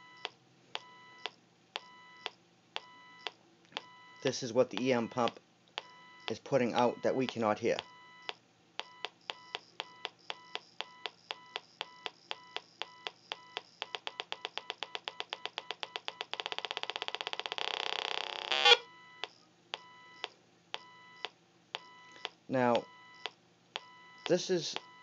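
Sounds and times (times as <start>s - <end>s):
electronic beeps and buzz: 0.0s - 25.0s.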